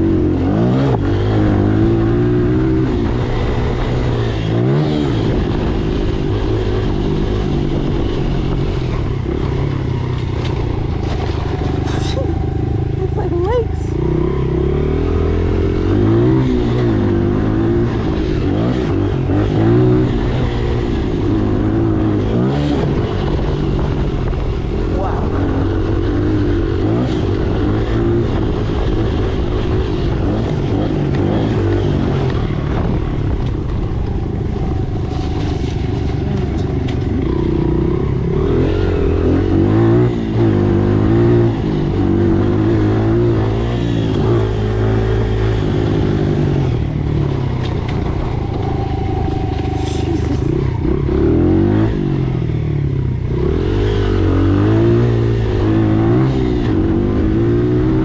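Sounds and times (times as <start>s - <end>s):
dirt bike engine revving: 0.0s - 33.8s, 35.0s - 58.0s.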